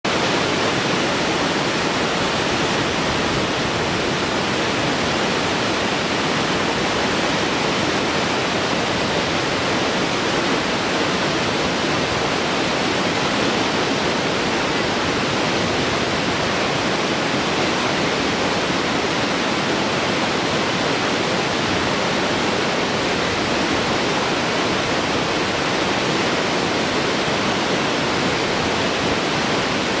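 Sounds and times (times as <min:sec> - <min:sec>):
waterfall roar: 0:00.0 - 0:30.0.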